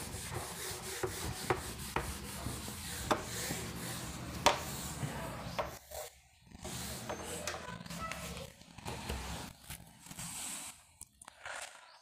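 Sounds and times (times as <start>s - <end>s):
writing scratching on a surface: 0.0s - 10.8s.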